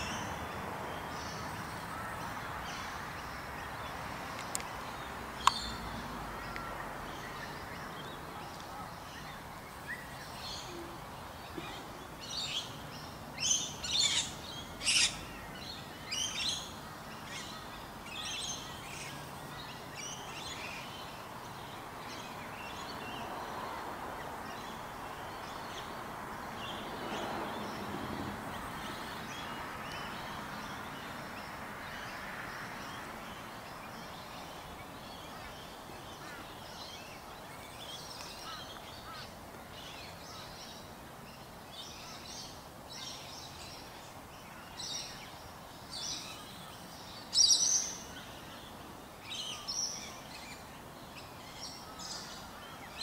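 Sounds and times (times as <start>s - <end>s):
small birds chirping: 0.0s - 53.0s
steady background noise: 0.0s - 53.0s.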